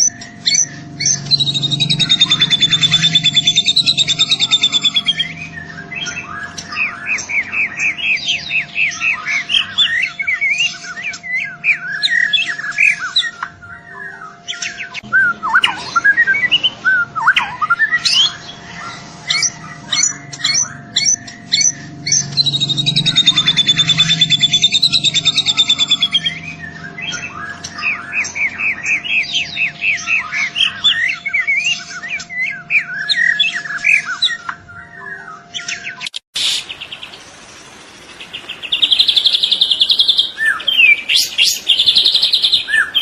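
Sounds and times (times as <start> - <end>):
bird singing trills and whistles: 0.0 - 43.0.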